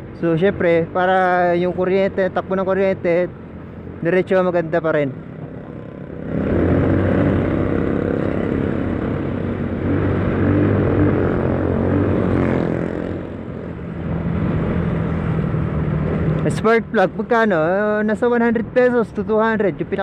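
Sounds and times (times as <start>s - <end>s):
rushing wind: 0.0s - 20.0s.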